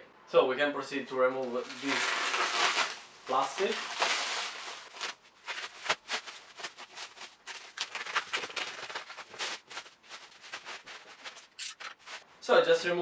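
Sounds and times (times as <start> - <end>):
plastic wrap crinkling: 1.4 - 12.3.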